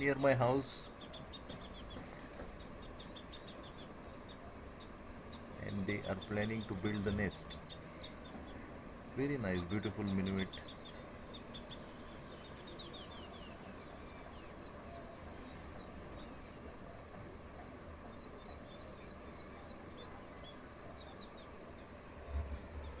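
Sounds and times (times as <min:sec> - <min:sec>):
steady high-pitched hiss: 0:00.0 - 0:23.0.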